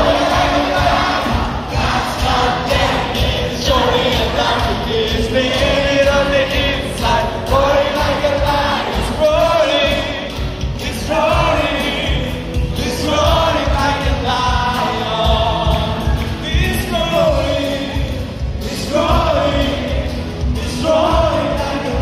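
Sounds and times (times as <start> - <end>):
amplified instrumental backing: 0.0 - 22.0
group singing gospel song: 0.0 - 22.0.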